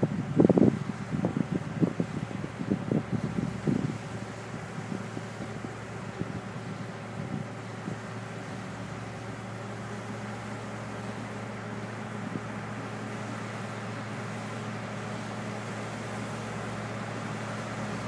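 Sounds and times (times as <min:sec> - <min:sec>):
bulldozer diesel engine droning: 0:00.0 - 0:18.0.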